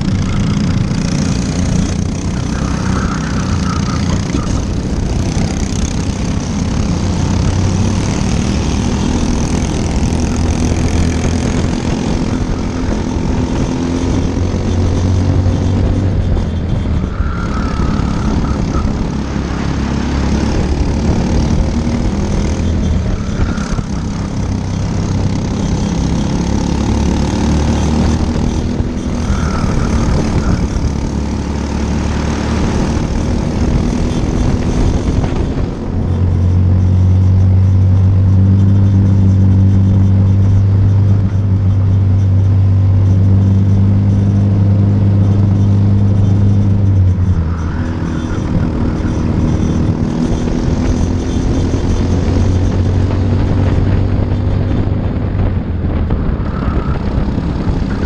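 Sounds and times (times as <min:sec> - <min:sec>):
kart engine racing: 0:00.0 - 0:58.0
other kart engines: 0:00.0 - 0:58.0.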